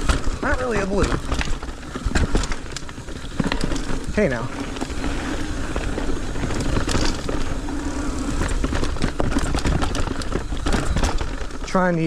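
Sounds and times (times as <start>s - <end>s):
bike clicks and knocks over bumps: 0.0s - 12.0s
tyres rolling over dirt and rocks: 0.0s - 12.0s.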